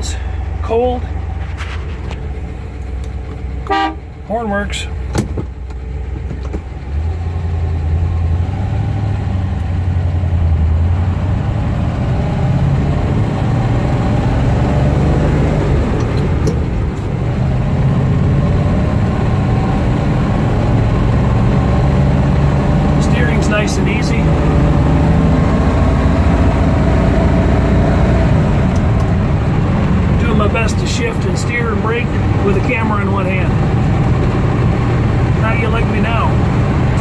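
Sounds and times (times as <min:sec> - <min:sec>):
car engine driving off: 0:00.0 - 0:37.0
road and wind noise: 0:00.0 - 0:37.0.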